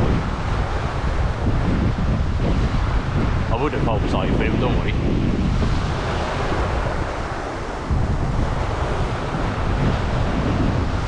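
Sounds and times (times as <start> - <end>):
waves breaking on shore: 0.0 - 11.0
wind buffeting microphone: 0.0 - 11.0.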